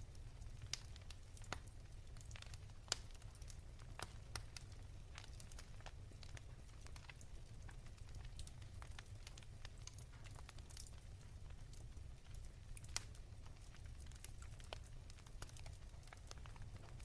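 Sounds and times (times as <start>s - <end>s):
wood fire crackling: 0.1s - 17.0s.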